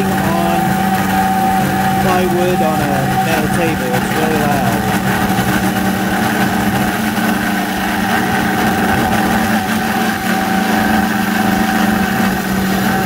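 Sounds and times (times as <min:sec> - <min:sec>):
router milling metal: 0:00.0 - 0:13.0.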